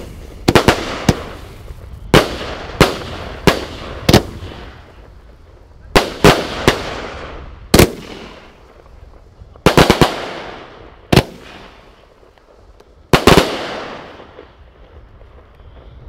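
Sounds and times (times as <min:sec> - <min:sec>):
firework bangs: 0:00.0 - 0:16.0.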